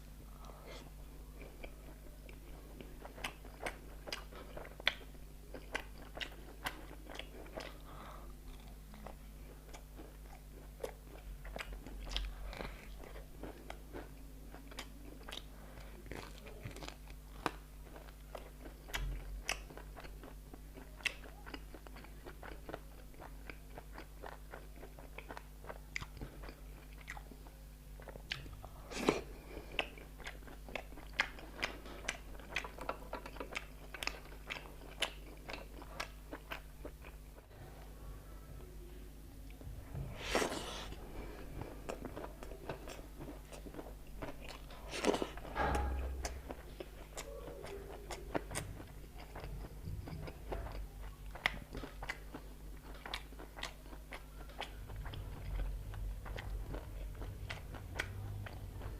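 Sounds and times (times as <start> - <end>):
steady low hum: 0.0 - 58.9
wet chewing and lip-smacking: 1.4 - 7.9, 8.5 - 37.5, 40.2 - 58.9.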